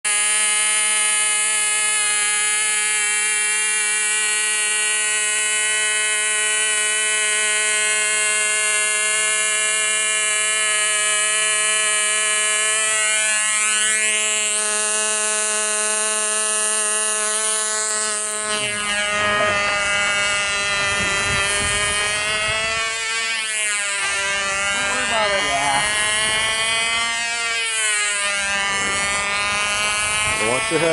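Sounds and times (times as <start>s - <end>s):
model airplane engine whine: 0.1s - 30.9s.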